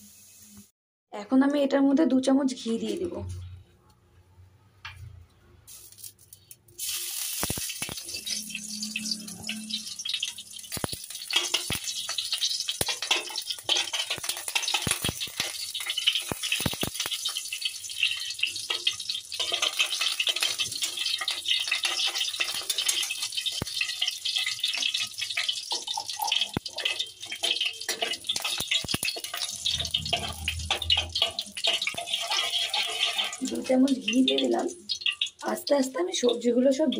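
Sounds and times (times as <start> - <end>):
oil sizzling in a pan: 0.0 - 0.7, 5.7 - 36.9.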